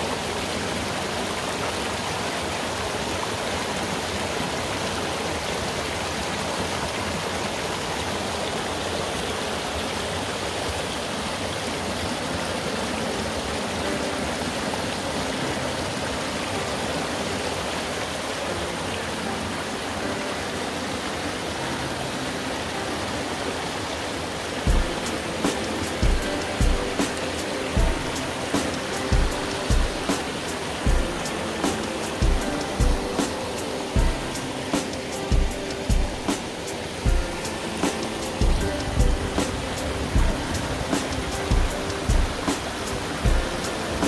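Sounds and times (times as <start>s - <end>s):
stream water rushing: 0.0s - 44.0s.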